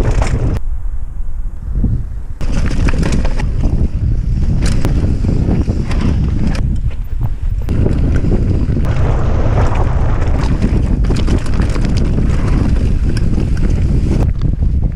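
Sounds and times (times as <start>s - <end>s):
bike clicks and rattles: 0.0s - 0.6s, 2.4s - 9.0s, 9.6s - 14.9s
wind buffeting microphone: 0.0s - 14.9s.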